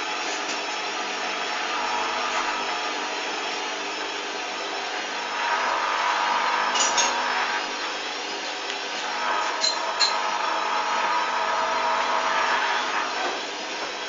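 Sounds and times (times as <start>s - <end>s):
washing machine motor whir: 0.0s - 14.0s.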